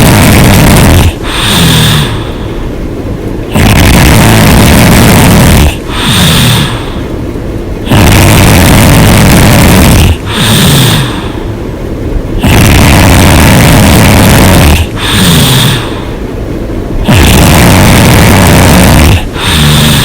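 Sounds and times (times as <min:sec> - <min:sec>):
person snoring loudly: 0:00.0 - 0:02.4, 0:03.5 - 0:07.0, 0:07.8 - 0:11.5, 0:12.4 - 0:16.2, 0:17.0 - 0:20.0.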